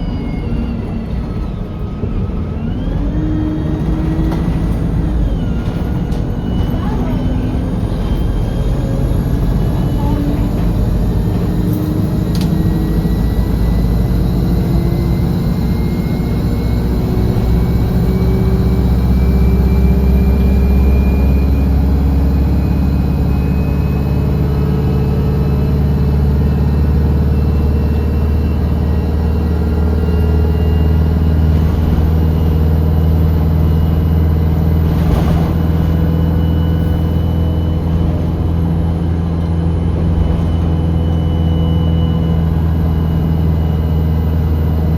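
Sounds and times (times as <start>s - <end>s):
bus engine rumble: 0.0s - 44.9s
rising engine whine: 0.0s - 44.9s.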